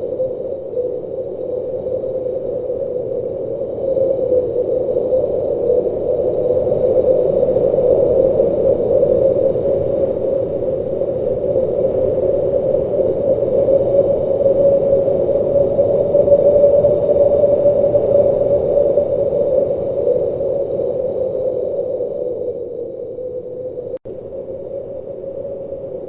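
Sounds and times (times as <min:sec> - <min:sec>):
blizzard wind rushing: 0:00.0 - 0:26.0.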